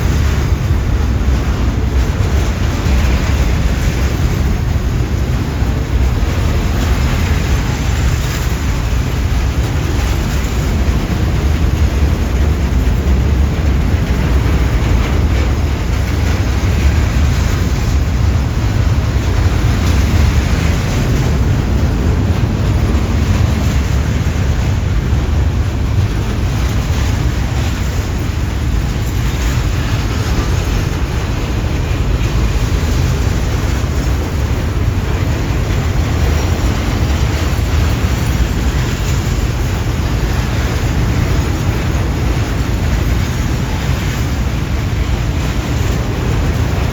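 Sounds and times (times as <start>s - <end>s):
freight train rumbling past: 0.0s - 46.9s.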